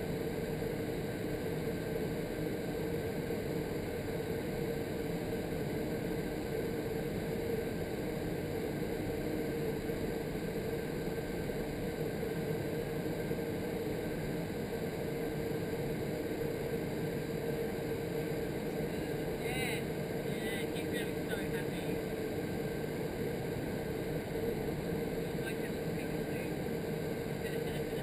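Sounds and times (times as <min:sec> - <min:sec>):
steady mid-pitched hum: 0:00.0 - 0:28.0.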